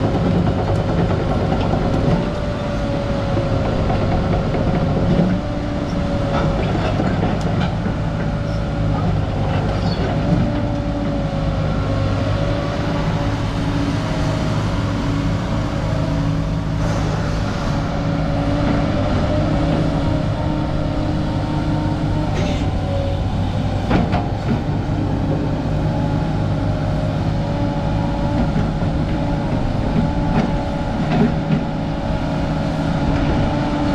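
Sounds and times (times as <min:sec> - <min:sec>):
excavator engine hum with whine: 0:00.0 - 0:33.9.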